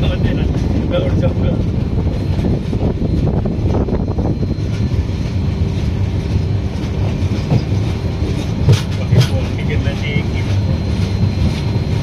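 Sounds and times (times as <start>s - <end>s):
clickety-clack over rail joints: 0.0s - 12.0s
train wheels rumbling on rails: 0.0s - 12.0s.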